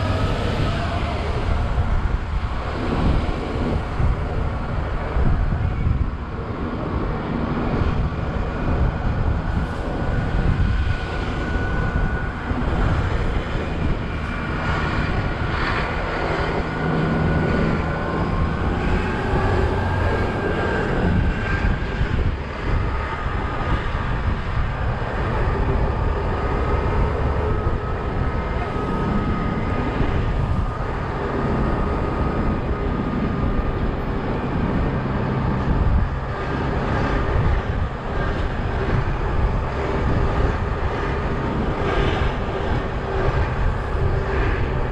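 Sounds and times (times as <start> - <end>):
bus engine and road drone: 0.0 - 44.9
wind buffeting microphone: 0.0 - 44.9.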